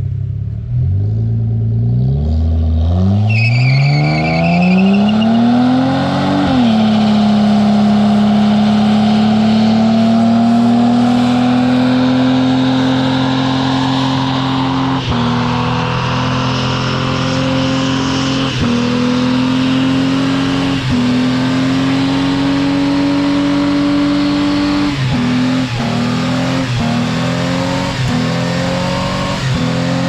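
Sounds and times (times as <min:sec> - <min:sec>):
car engine revving hard: 0:02.0 - 0:30.0.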